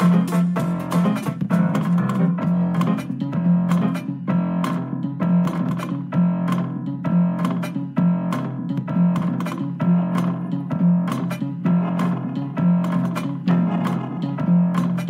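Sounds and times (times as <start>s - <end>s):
prepared piano music: 0.0s - 15.0s.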